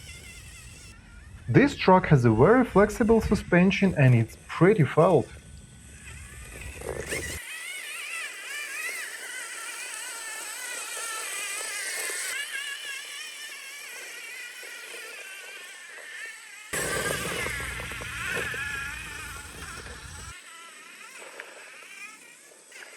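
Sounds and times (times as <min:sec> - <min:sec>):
toy car electric motor whining: 0:00.0 - 0:22.9.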